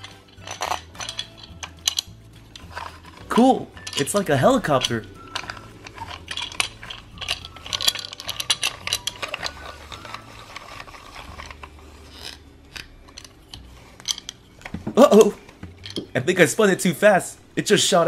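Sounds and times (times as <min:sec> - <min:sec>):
plastic toy clicking and rattling: 0:00.0 - 0:16.2.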